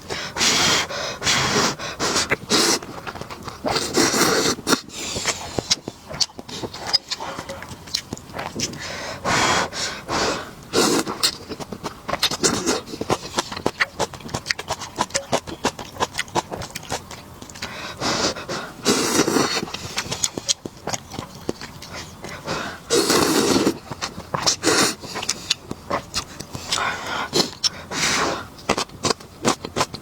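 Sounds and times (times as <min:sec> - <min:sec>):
noodles being slurped: 0:00.0 - 0:30.0.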